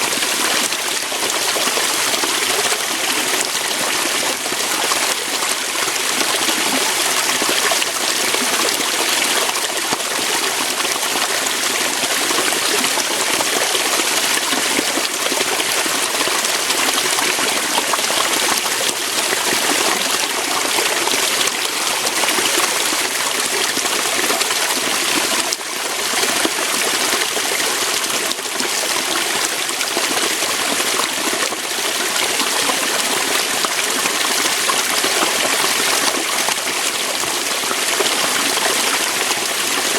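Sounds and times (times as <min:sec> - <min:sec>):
waterfall pouring over rocks: 0:00.0 - 0:39.9.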